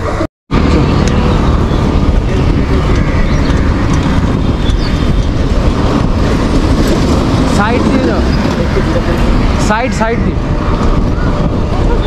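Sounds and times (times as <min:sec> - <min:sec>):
city traffic noise: 0:00.0 - 0:12.0
wind on microphone: 0:00.0 - 0:12.0.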